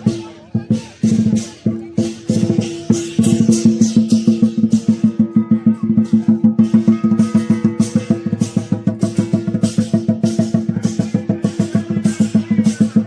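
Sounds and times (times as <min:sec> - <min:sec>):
cymbals clashing: 0:00.0 - 0:13.0
large drum beaten fast: 0:00.0 - 0:13.0.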